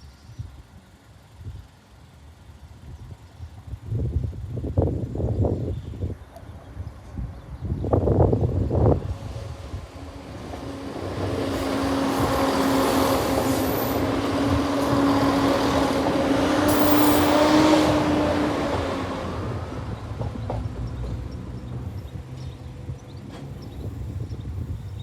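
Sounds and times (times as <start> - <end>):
train rumbling past: 0.9 - 25.0.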